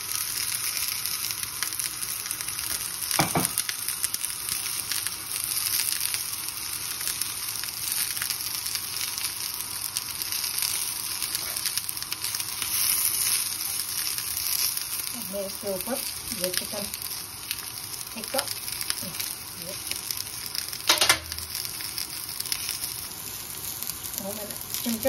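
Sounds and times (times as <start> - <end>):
hot oil sizzling: 0.0 - 25.0.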